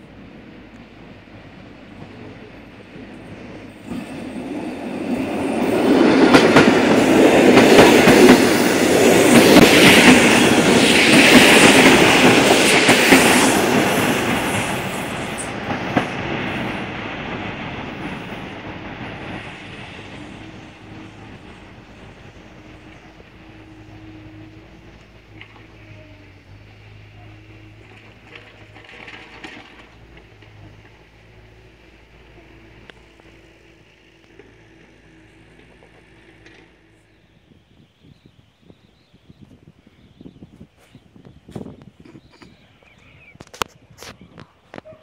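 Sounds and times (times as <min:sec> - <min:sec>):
electric train passing: 0:00.0 - 0:39.9
wheels clattering over rail joints: 0:00.7 - 0:37.0.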